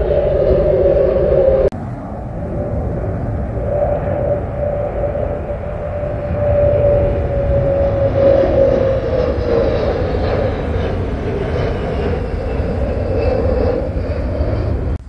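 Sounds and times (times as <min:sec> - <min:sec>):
jet engines rumbling: 0:00.0 - 0:15.0
jet whine falling in pitch: 0:00.0 - 0:15.0.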